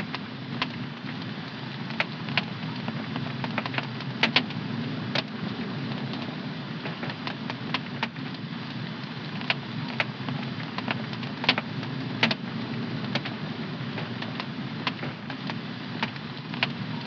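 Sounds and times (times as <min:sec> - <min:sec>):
low flame rumble: 0:00.0 - 0:17.0
wood fire crackling: 0:00.0 - 0:17.0
sharp fire pops: 0:00.1 - 0:16.8.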